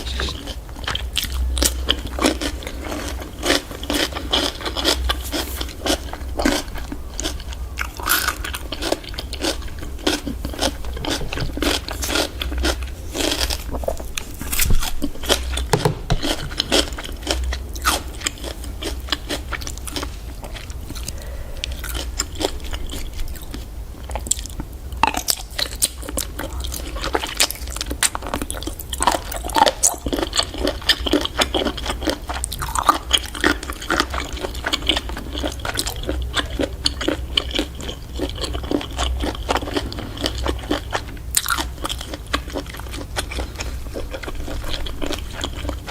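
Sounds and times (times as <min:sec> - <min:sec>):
person biting and chewing: 0:00.0 - 0:45.9
steady low hum: 0:00.0 - 0:45.9.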